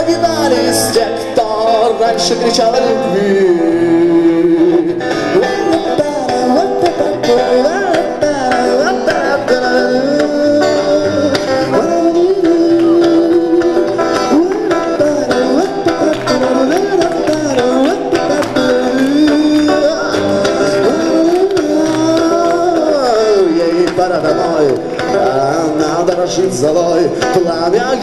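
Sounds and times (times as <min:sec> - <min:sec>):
bass guitar: 0:00.0 - 0:28.0
electric guitar lead melody: 0:00.0 - 0:28.0
drums: 0:04.3 - 0:28.0.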